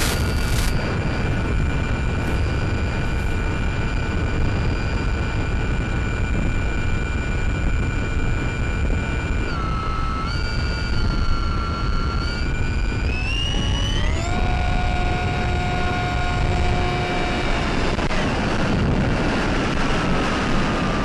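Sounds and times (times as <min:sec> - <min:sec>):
electric motor whine: 0:00.0 - 0:21.0
wind noise: 0:00.0 - 0:21.0.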